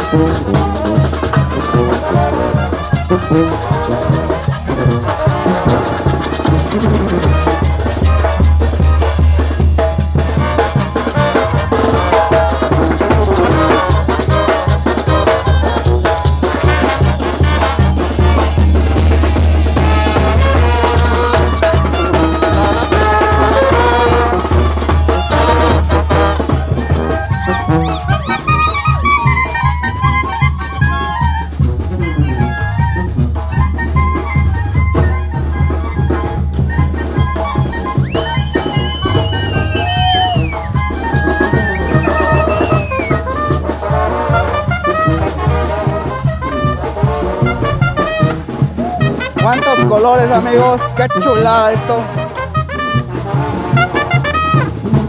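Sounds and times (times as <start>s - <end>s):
steady drum beat: 0.0s - 32.2s, 35.1s - 55.0s
brass band playing: 0.0s - 55.0s
trumpets: 0.0s - 55.0s.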